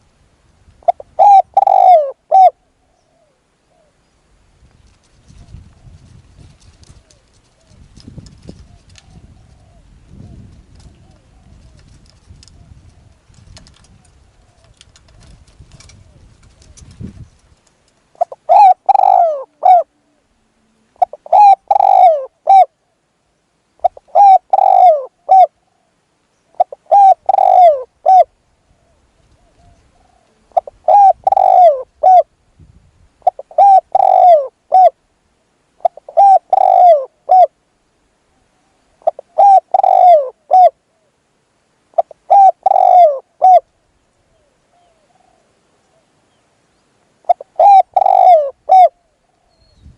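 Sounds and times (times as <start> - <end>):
dove cooing: 0.8 - 4.0, 5.3 - 13.2, 13.9 - 16.9, 18.2 - 23.0, 23.8 - 32.4, 33.2 - 35.0, 35.8 - 37.6, 38.5 - 41.2, 41.9 - 43.7, 44.3 - 46.2, 47.2 - 49.8.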